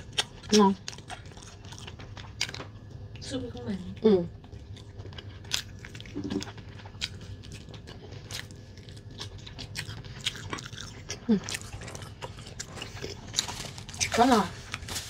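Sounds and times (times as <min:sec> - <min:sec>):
chewing and biting bony meat: 0:00.0 - 0:03.2, 0:04.3 - 0:14.9.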